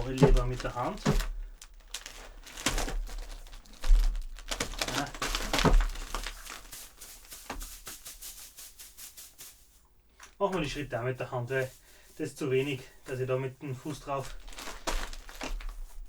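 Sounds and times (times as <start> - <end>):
crunching and crinkling by hand: 0.0 - 16.0.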